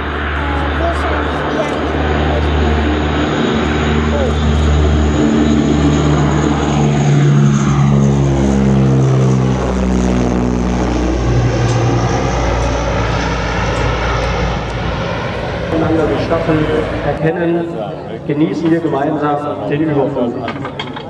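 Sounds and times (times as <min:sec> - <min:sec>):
turboprop aircraft engines droning: 0:00.0 - 0:21.0.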